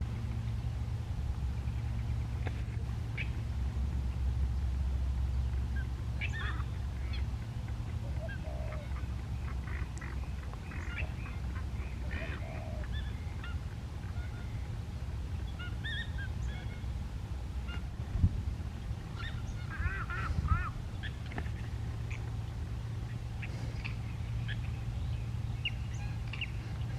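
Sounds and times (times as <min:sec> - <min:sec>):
birds chirping and honking: 0:01.6 - 0:26.9.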